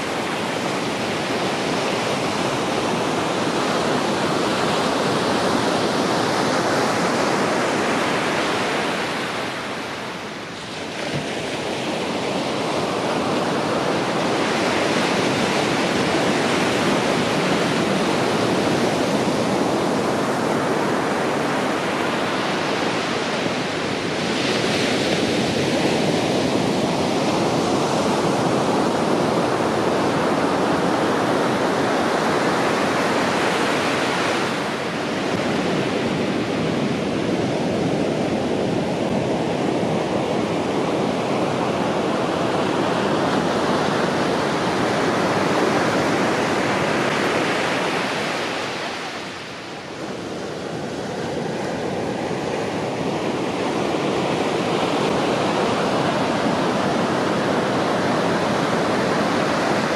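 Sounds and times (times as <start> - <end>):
waves breaking on beach: 0.0 - 59.9.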